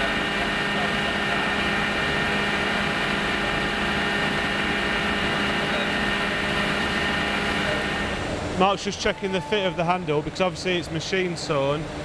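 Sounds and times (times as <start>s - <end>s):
woodworking machinery running: 0.0s - 12.0s.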